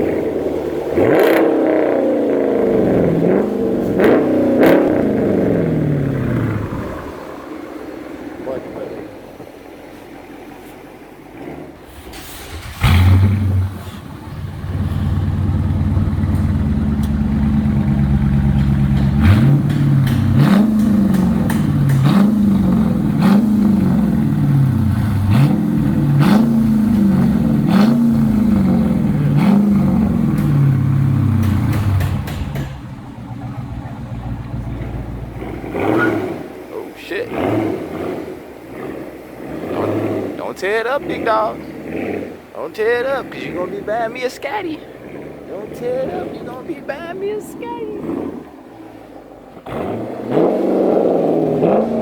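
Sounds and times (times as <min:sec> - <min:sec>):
car engine idling: 0:00.0 - 0:49.7
car engine revving: 0:00.0 - 0:52.0
car engine starting: 0:00.0 - 0:52.0.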